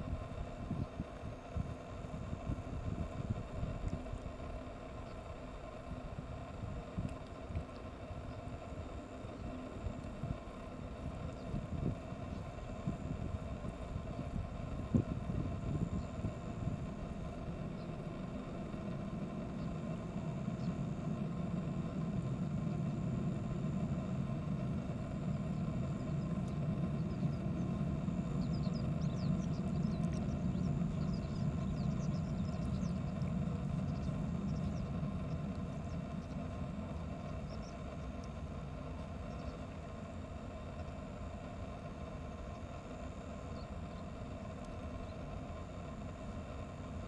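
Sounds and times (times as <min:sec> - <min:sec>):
low mechanical rumble: 0:00.0 - 0:47.0.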